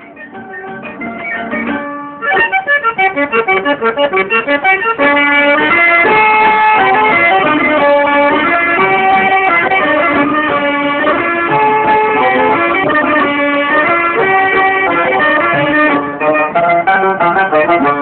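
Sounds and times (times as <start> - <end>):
accordion playing chords: 0.0 - 18.0.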